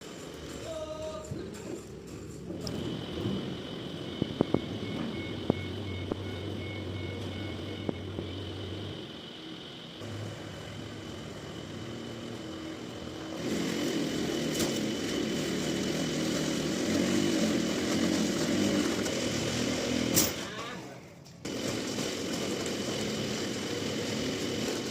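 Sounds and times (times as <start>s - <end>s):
sawmill machinery whining: 0.0s - 24.9s.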